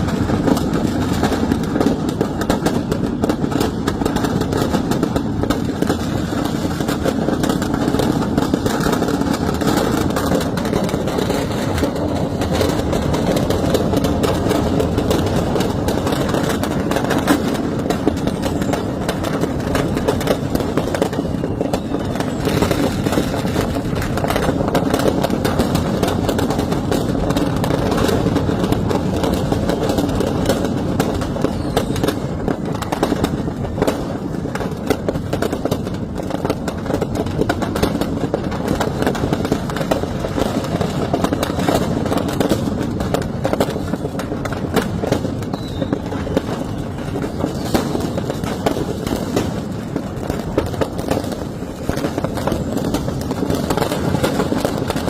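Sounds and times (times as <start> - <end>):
firecrackers crackling and popping: 0.0 - 55.0.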